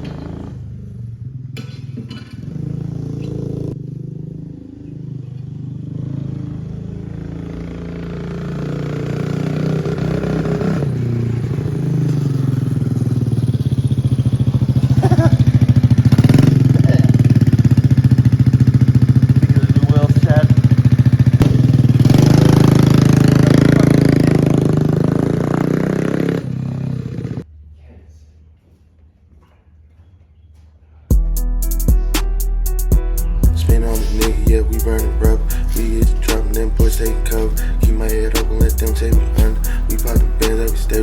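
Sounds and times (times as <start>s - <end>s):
small motorbike engine running: 0.0s - 27.4s, 33.6s - 41.0s.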